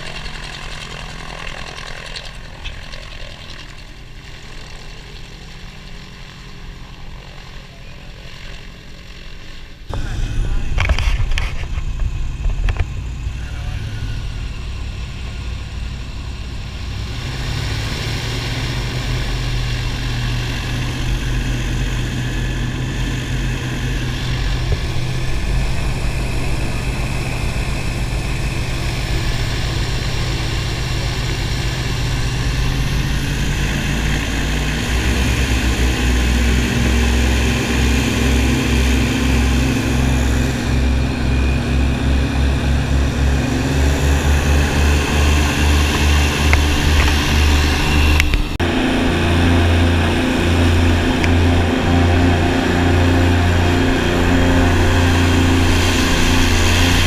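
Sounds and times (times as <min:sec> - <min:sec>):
airboat engine and propeller: 0:00.0 - 0:57.0.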